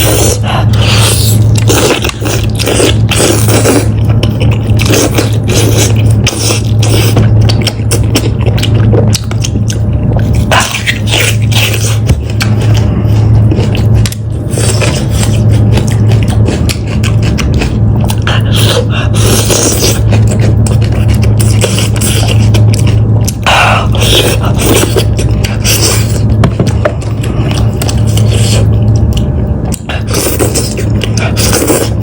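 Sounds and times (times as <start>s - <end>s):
chewing and gnawing meat: 0.0s - 32.0s
steady low hum: 0.0s - 32.0s.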